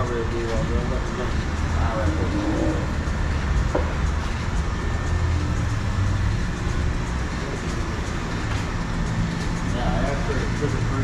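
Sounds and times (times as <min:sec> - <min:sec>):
motor vehicle rumbling: 0:00.0 - 0:11.0.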